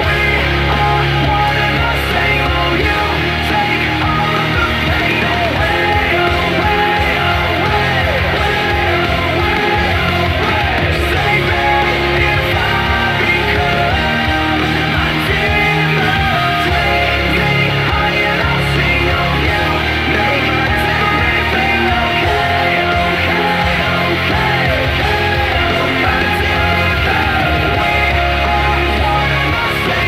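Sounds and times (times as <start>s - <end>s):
loud rock music with singer: 0.0s - 30.0s.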